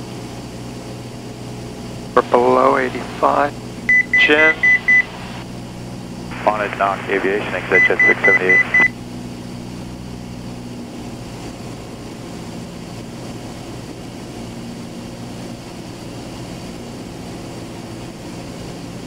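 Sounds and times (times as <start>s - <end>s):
airplane engine droning in cockpit: 0.0s - 19.0s.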